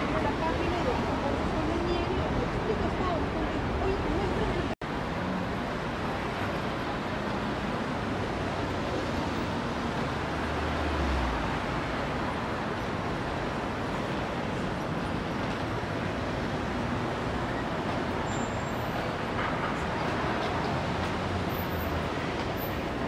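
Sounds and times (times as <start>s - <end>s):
passing cars: 0.0s - 23.0s.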